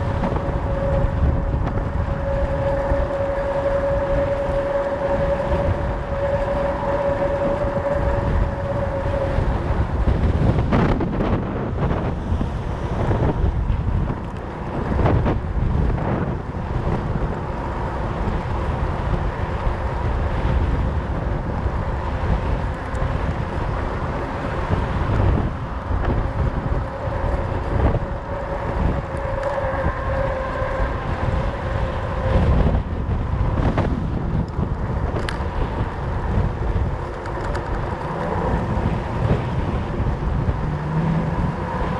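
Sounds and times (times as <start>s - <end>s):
bike tyre rumble: 0.0s - 41.9s
wind rushing over microphone: 0.0s - 41.9s.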